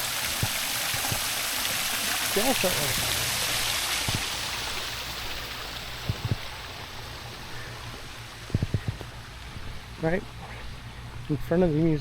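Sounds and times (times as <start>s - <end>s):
fountain water splashing: 0.0s - 10.4s.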